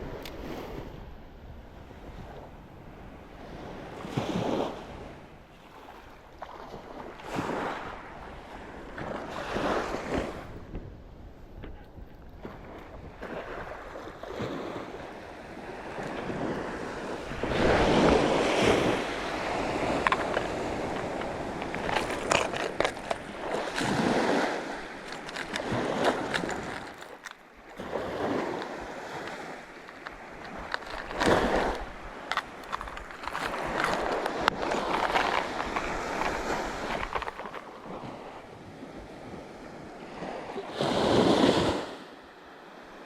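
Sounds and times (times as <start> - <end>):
sea waves washing on shore: 0.0 - 43.0.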